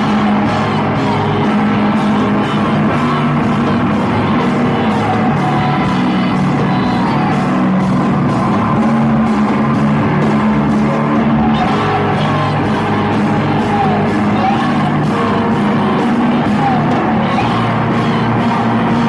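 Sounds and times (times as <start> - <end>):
rock music with singing: 0.0 - 19.0
steady drum beat: 0.0 - 19.0.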